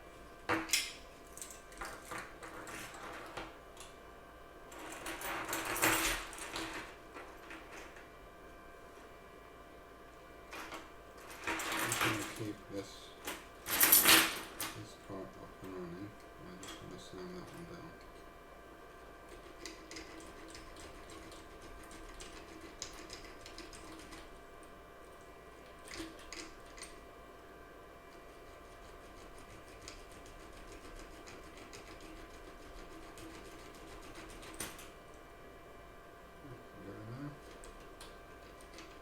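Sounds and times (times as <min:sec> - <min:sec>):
steady faint hum: 0:00.0 - 0:39.0.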